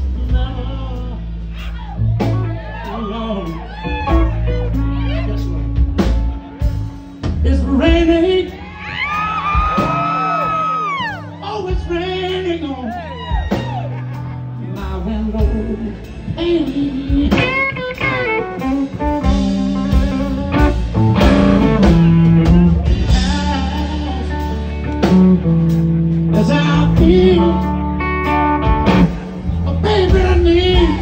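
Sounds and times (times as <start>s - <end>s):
blues band playing: 0.0s - 31.0s
electric guitar lead with bent notes: 1.7s - 12.0s, 13.1s - 31.0s.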